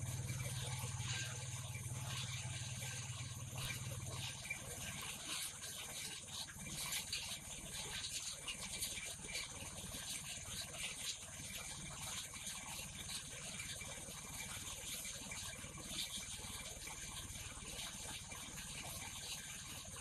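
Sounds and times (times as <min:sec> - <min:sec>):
crackling hiss and rattle: 0:00.0 - 0:20.0.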